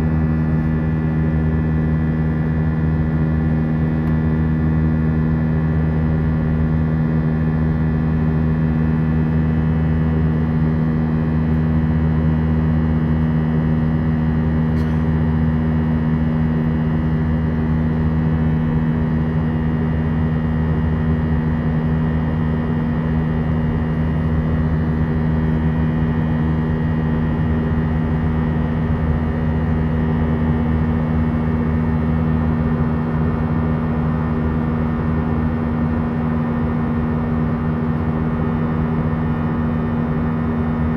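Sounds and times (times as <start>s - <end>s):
constant low hum: 0.0s - 40.9s
jet engine drone: 0.0s - 40.9s.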